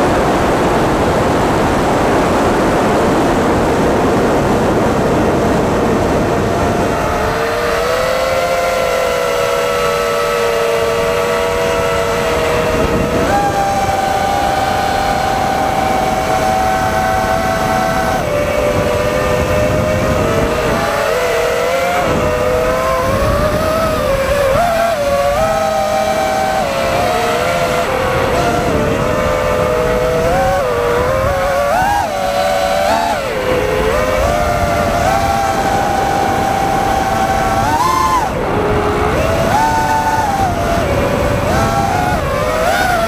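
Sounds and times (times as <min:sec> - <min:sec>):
loud rushing noise: 0:00.0 - 0:43.0
quadcopter motors whining: 0:00.0 - 0:43.0.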